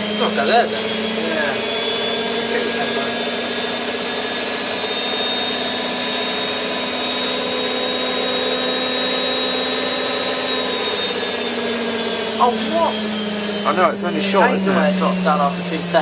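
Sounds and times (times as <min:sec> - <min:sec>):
motor whine: 0:00.0 - 0:16.0.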